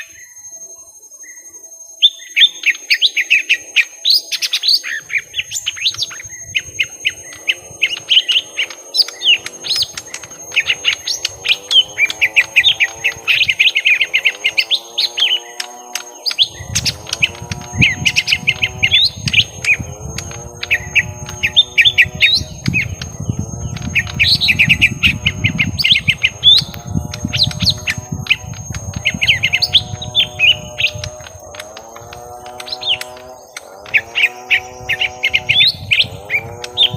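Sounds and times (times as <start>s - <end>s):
birds chattering and whistling: 0.0s - 36.9s
low repeating bird call: 0.0s - 36.9s.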